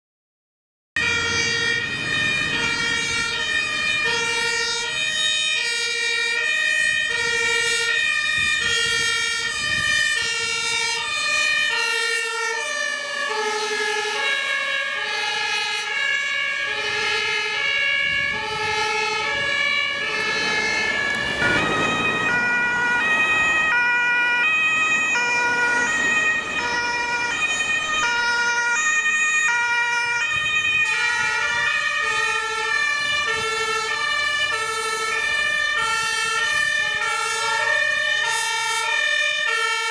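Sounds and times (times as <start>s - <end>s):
two-tone sirens: 1.0s - 39.9s.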